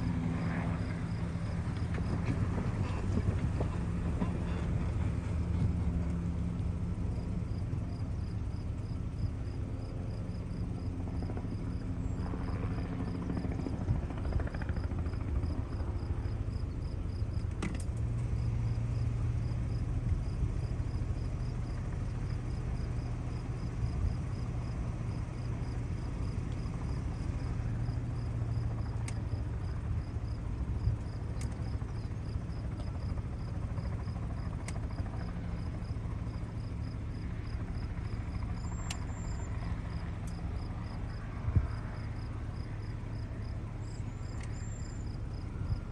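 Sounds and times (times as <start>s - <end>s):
cricket chirping: 0.0s - 2.2s, 7.1s - 17.4s, 18.4s - 45.9s
farm machinery engine drone: 0.0s - 45.9s.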